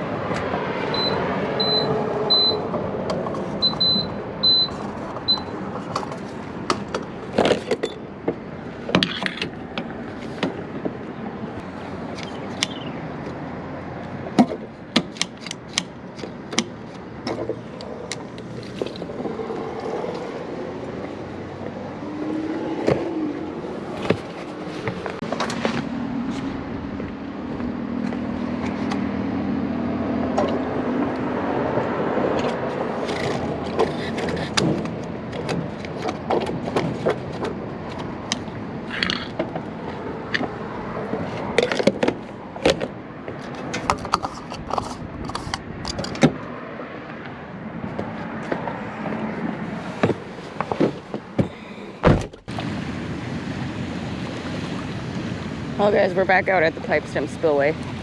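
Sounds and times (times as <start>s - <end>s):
vehicle engine humming: 0.0s - 58.0s.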